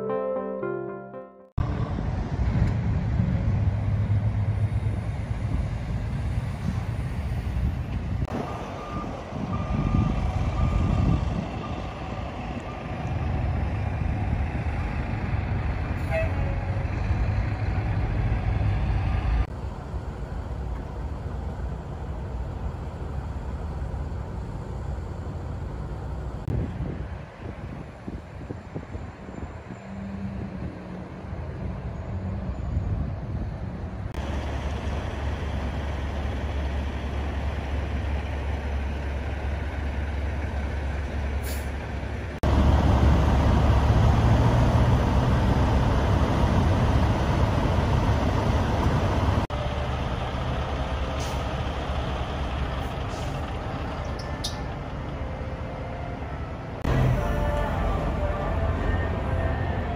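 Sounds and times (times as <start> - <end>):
diesel truck engines idling: 1.6 - 59.9
passing vehicles: 1.6 - 59.9.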